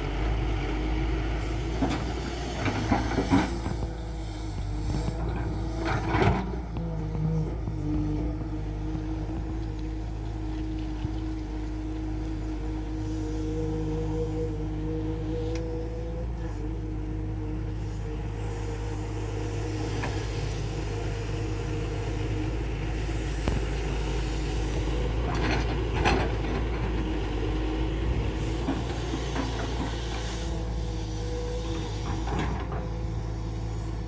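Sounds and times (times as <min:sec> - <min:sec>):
diesel engine running: 0:00.0 - 0:34.0
hydraulic whine: 0:00.0 - 0:34.0.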